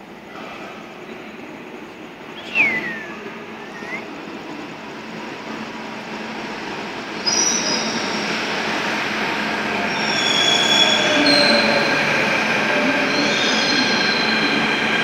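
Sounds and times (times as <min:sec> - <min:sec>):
metro train passing: 0:00.0 - 0:15.0.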